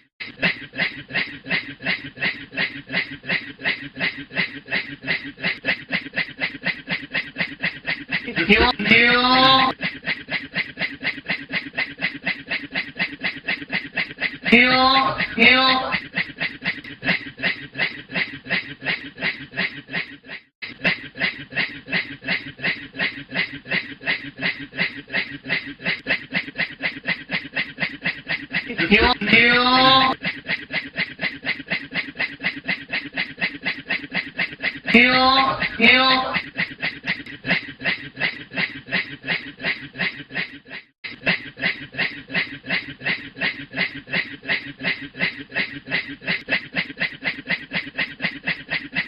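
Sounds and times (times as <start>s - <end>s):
man imitating steam train chuffs: 0.0s - 49.0s.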